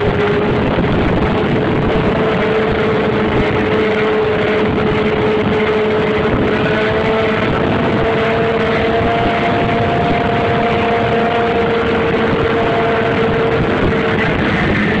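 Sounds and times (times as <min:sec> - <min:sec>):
motorcycle engine at high revs: 0:00.0 - 0:15.0
wind and road noise: 0:00.0 - 0:15.0.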